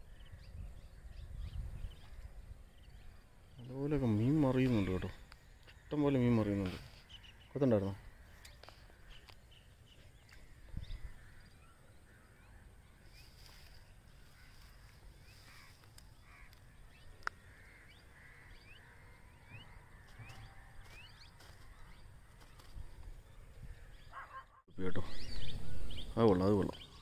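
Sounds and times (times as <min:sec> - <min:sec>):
bird chirps: 0:00.0 - 0:27.0.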